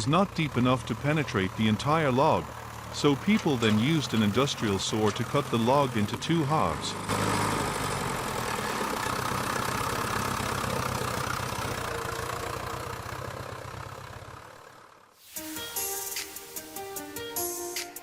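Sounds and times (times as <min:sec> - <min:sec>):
log saw engine running: 0:00.0 - 0:15.1.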